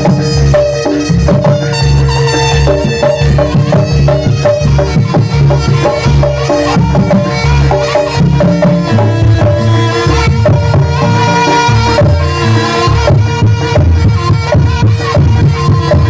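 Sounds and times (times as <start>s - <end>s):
gong-chime percussion: 0.0s - 13.9s
drums: 0.0s - 16.0s.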